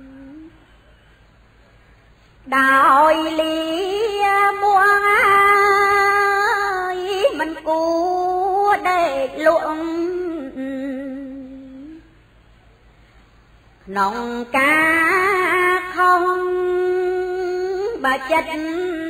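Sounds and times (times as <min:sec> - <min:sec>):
woman chanting verse: 0:00.0 - 0:00.8, 0:02.4 - 0:12.2, 0:13.8 - 0:19.0.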